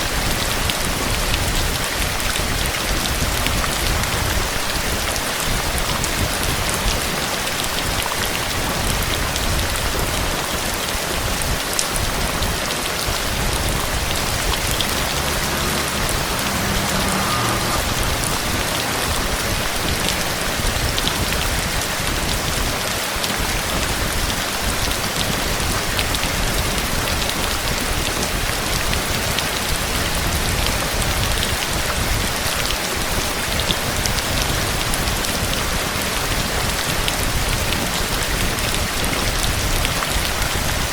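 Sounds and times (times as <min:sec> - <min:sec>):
heavy rain hissing: 0:00.0 - 0:40.9
sharp raindrop hits: 0:00.0 - 0:40.9.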